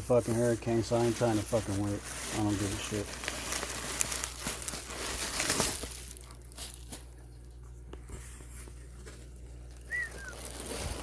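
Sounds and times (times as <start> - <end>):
packaging rustling and crinkling: 0.0 - 7.6, 8.4 - 11.0.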